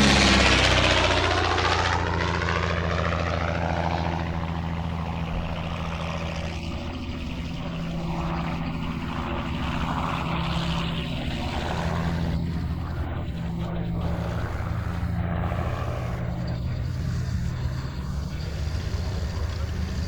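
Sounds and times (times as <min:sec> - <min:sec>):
aircraft engines droning: 0:00.0 - 0:20.0
broad rushing noise: 0:02.4 - 0:20.0.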